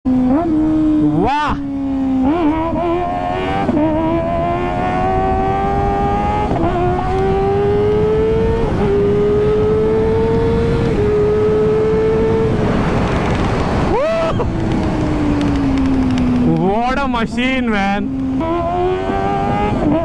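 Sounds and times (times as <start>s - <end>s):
motorcycle engine accelerating: 0.1s - 20.0s.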